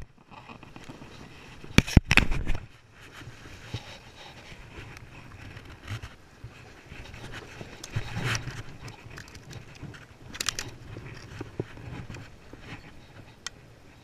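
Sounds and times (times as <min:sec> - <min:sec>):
fishing gear rustling and clicking: 0:00.0 - 0:14.0.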